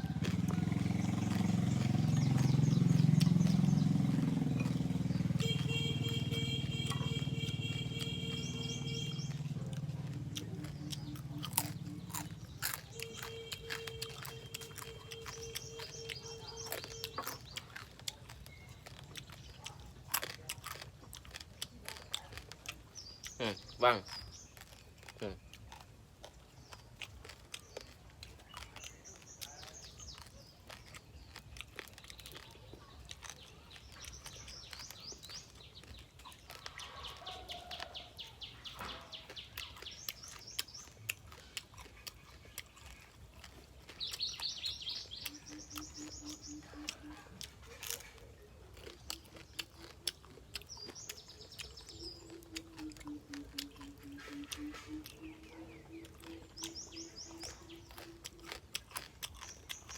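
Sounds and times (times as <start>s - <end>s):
crunching fried crab shell: 0.0s - 59.9s
small birds chirping: 0.0s - 59.9s.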